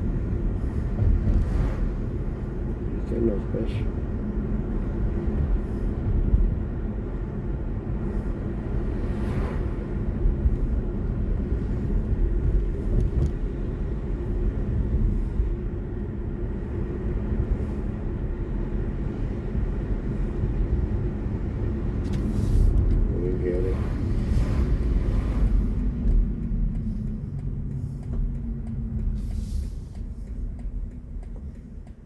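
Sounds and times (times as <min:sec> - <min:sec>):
road and tyre rumble: 0:00.0 - 0:32.0.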